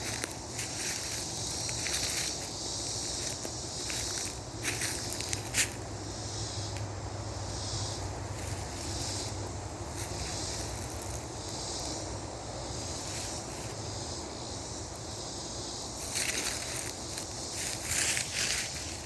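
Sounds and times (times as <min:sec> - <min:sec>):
rustling crunches in dry leaves: 0:00.0 - 0:12.1, 0:12.8 - 0:19.0
steady hiss: 0:00.0 - 0:19.0.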